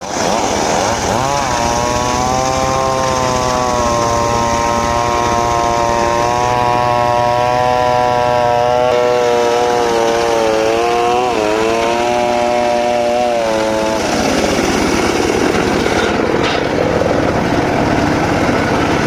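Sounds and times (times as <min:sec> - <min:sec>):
circular saw high whine: 0:00.0 - 0:19.0.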